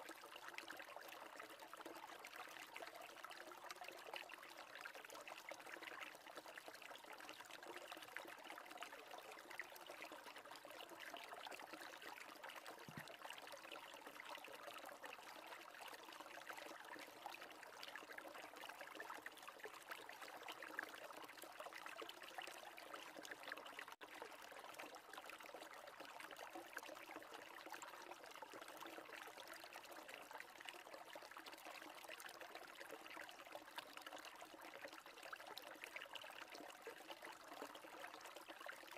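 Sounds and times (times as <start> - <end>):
faint trickle of running water: 0.0 - 38.9.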